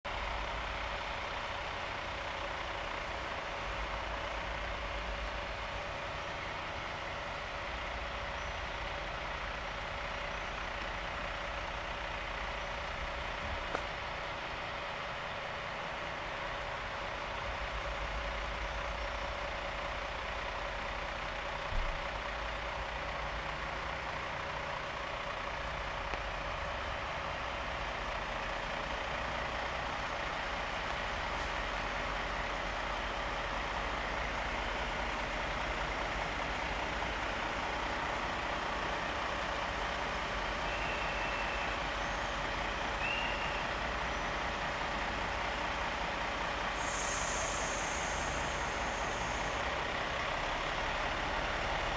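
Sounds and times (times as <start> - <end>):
diesel locomotive idling: 0.1 - 51.9.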